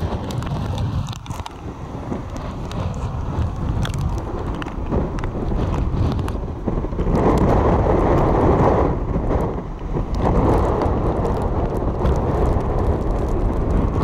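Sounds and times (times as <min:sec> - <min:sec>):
storm surf: 0:00.0 - 0:14.0
wind buffeting microphone: 0:00.0 - 0:14.0.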